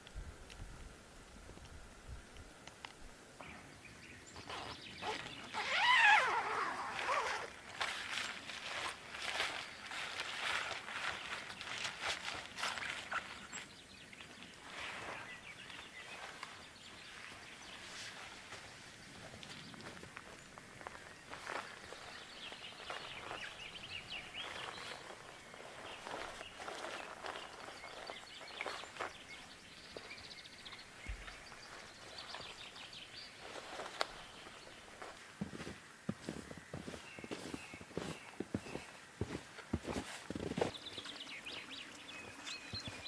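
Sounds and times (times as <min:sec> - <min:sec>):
footsteps crunching in snow: 0:04.4 - 0:13.7, 0:14.6 - 0:43.0.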